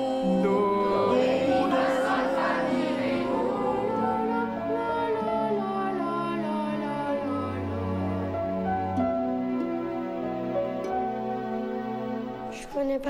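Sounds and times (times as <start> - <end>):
slow instrumental film music: 0.0 - 12.7.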